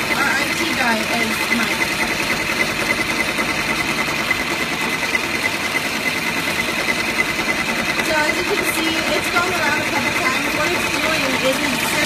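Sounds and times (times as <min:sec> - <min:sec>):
embroidery machine stitching chatter: 0:00.0 - 0:12.0.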